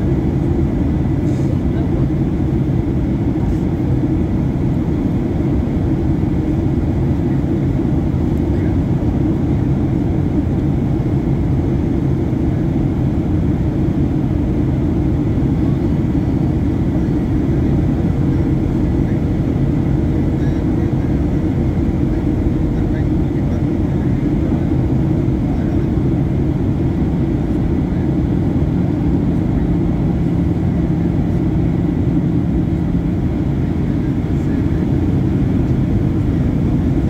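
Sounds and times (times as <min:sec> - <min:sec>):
faint steady whine: 0:00.0 - 0:37.0
jet engine and airflow rumble: 0:00.0 - 0:37.0.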